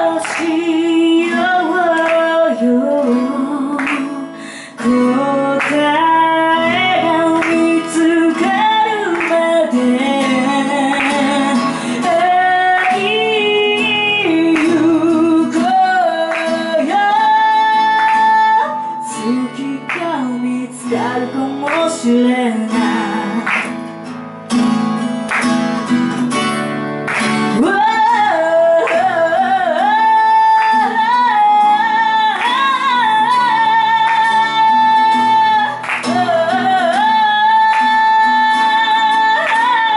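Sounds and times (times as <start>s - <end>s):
woman singing: 0.0s - 23.8s, 27.1s - 39.9s
acoustic guitar strumming: 0.0s - 39.9s.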